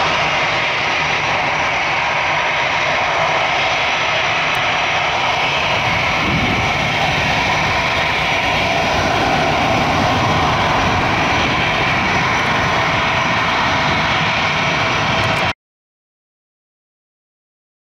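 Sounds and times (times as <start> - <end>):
jet engines rumbling at high thrust: 0.0 - 15.6.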